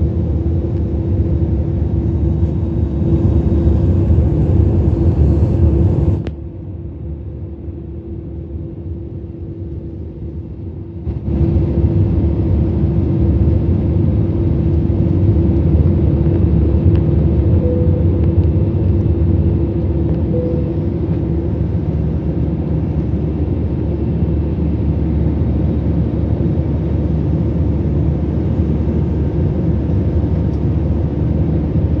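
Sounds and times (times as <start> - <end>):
jet engine cabin rumble: 0.0 - 32.0
steady hum: 0.0 - 32.0.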